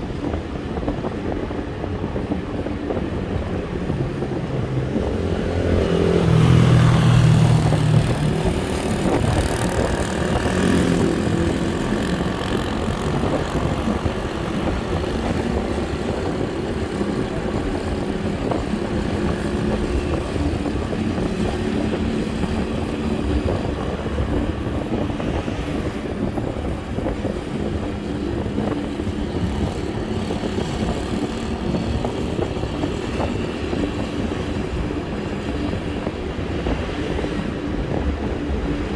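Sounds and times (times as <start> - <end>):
low-pitched vehicle sound: 0.0 - 38.9
road traffic and engine noise: 0.0 - 38.9.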